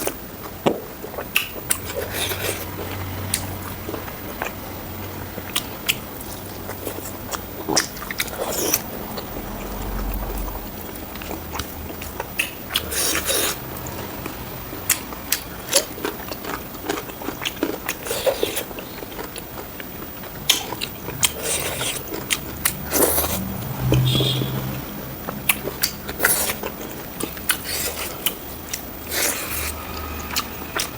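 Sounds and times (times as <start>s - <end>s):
close chewing and biting: 0.0s - 30.9s.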